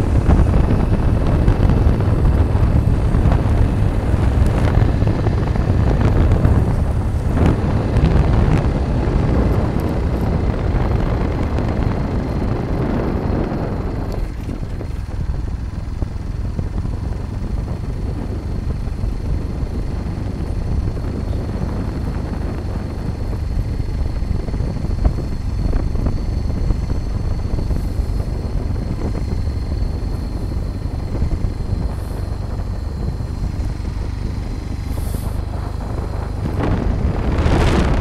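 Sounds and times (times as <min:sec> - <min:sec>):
vehicle rumbling along road: 0:00.0 - 0:38.0
wind buffeting microphone: 0:00.0 - 0:38.0.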